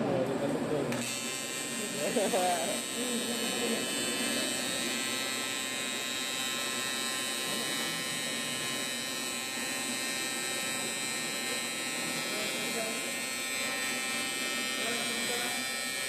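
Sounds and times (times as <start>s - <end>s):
welding arc buzzing: 0.9s - 16.0s.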